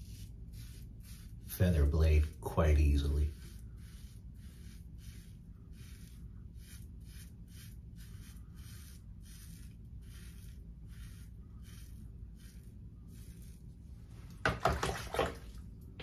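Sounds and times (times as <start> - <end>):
razor scraping stubble: 0.0 - 13.8.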